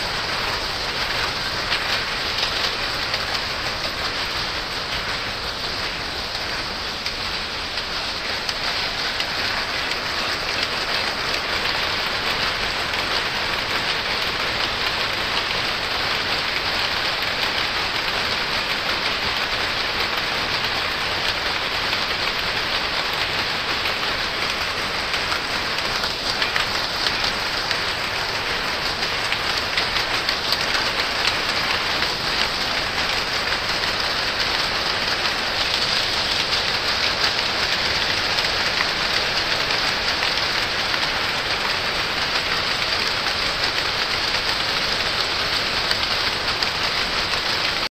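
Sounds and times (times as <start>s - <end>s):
power looms clattering: 0.0s - 47.9s.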